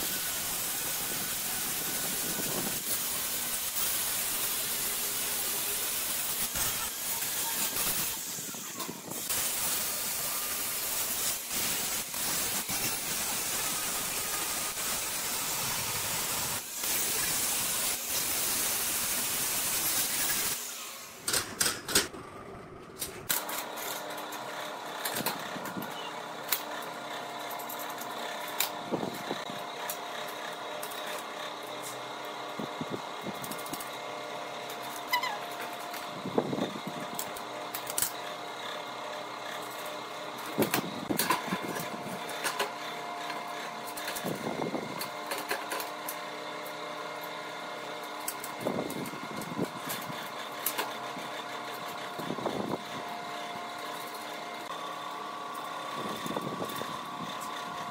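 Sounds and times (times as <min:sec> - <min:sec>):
steady machine hum: 0:00.0 - 0:57.9.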